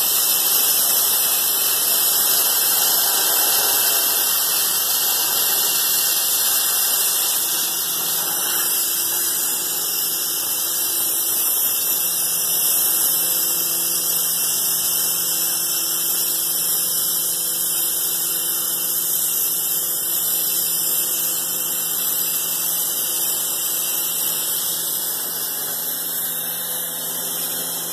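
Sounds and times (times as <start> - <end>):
cutting torch hissing: 0.0 - 27.9.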